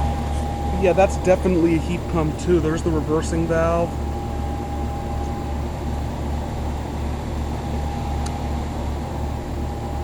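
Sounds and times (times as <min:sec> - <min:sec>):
heat pump low hum: 0:00.0 - 0:10.0
thin whine: 0:00.0 - 0:10.0.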